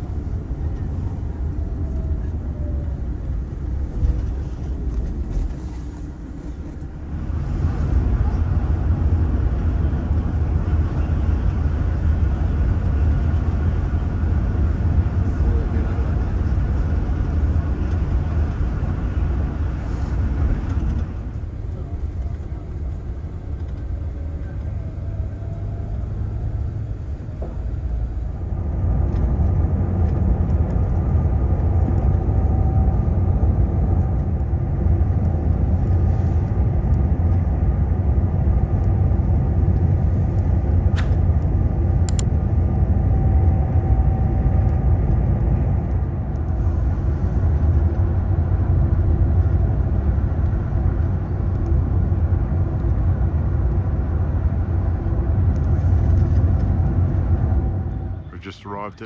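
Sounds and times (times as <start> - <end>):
coach engine and road rumble: 0.0 - 59.0.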